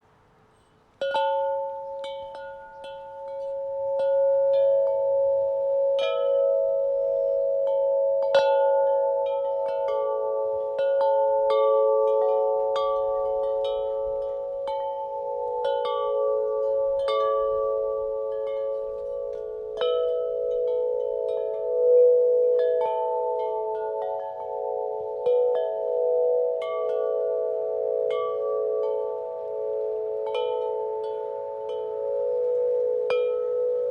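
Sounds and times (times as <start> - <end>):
wind chimes ringing: 0.6 - 33.9.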